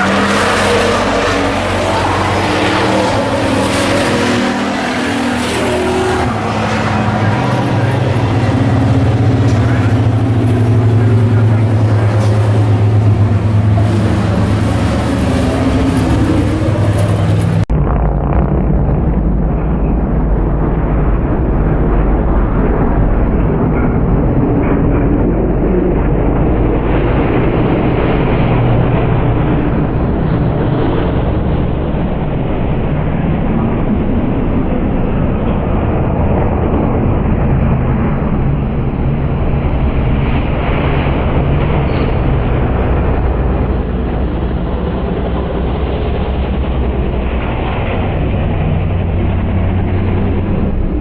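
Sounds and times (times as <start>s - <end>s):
race truck engines droning: 0.0s - 51.0s.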